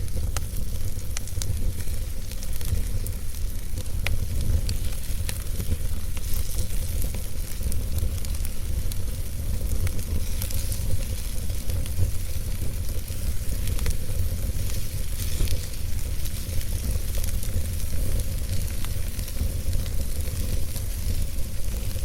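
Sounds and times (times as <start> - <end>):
flames rumbling: 0.0 - 22.0
logs crackling and popping: 0.0 - 22.0.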